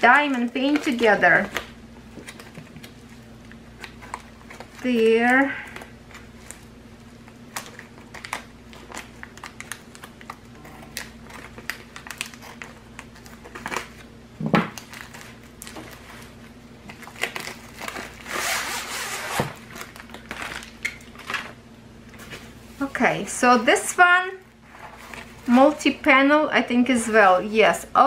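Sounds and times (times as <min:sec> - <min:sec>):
plastic mailer crinkling: 0:00.0 - 0:22.6.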